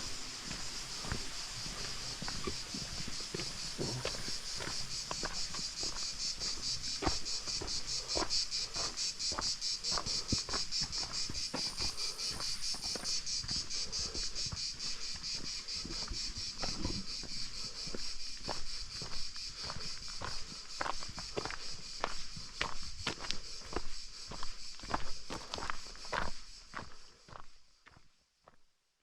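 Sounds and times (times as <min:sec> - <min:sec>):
insects trilling: 0:00.0 - 0:28.0
soft footsteps on a trail: 0:00.0 - 0:28.7.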